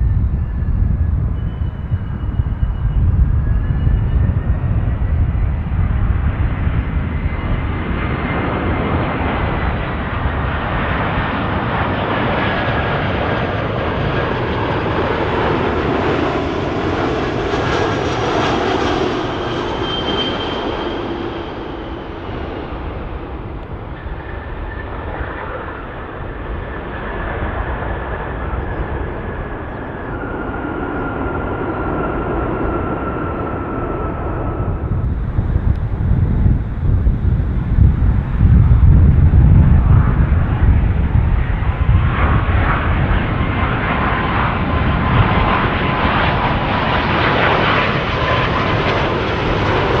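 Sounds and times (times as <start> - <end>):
jet airliner engines passing: 0.0 - 50.0.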